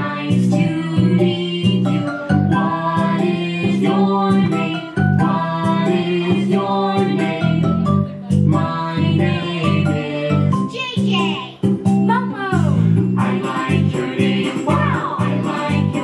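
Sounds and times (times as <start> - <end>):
song with singing and beat: 0.0 - 16.0.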